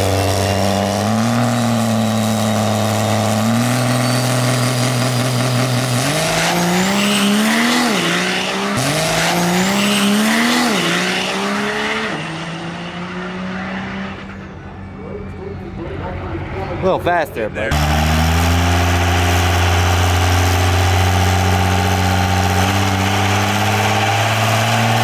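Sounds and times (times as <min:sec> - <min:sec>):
diesel pickup engine accelerating: 0:00.0 - 0:16.2, 0:17.5 - 0:25.0.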